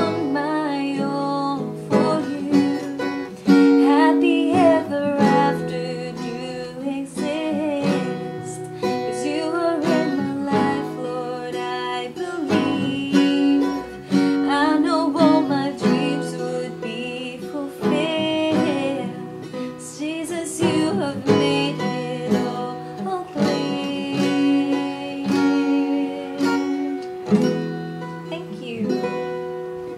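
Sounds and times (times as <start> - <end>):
person singing: 0.0 - 27.2
acoustic guitar strumming: 0.0 - 29.9.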